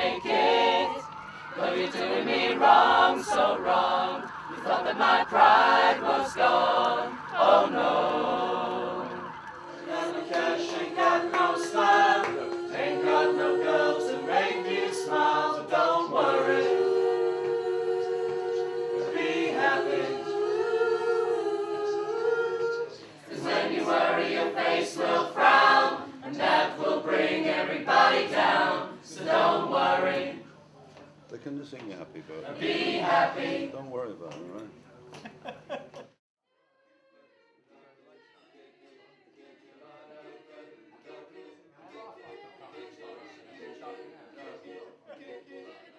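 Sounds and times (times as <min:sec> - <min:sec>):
choir singing unaccompanied: 0:00.0 - 0:30.5, 0:32.4 - 0:33.8, 0:36.9 - 0:45.9.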